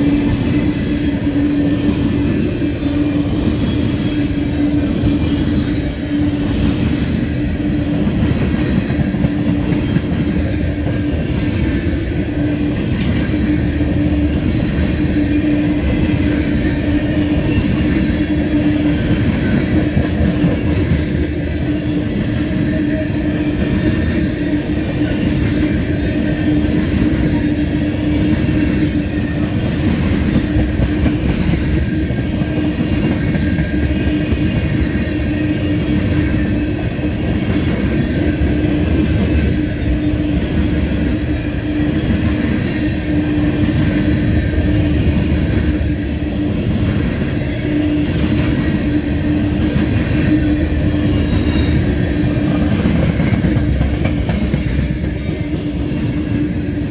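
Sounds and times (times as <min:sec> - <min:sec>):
freight train wheels rumbling on track: 0:00.0 - 0:56.9.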